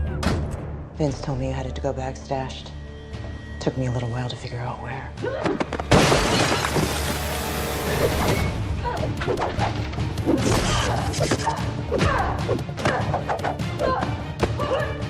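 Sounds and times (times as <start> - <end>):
dramatic score music: 0.0 - 6.0, 6.6 - 15.0.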